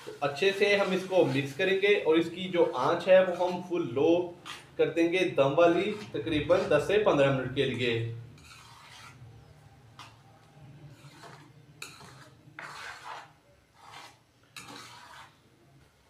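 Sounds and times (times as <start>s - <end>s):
wooden spatula scraping a wok: 0.0s - 7.0s, 7.7s - 10.2s, 10.8s - 15.5s.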